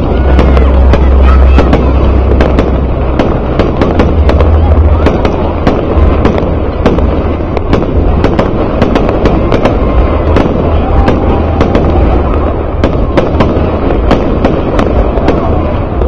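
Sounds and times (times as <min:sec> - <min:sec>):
deep rumble: 0:00.0 - 0:16.0
fireworks bangs and cracks: 0:00.0 - 0:16.0.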